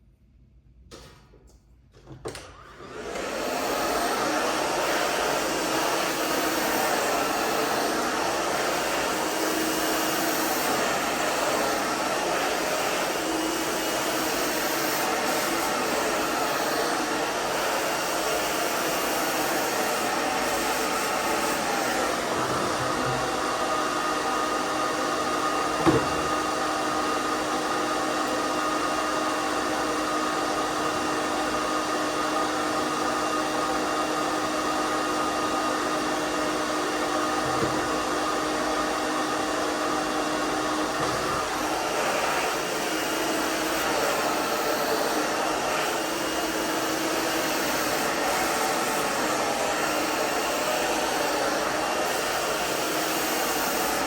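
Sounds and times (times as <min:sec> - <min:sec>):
hairdryer running: 0:02.0 - 0:54.0.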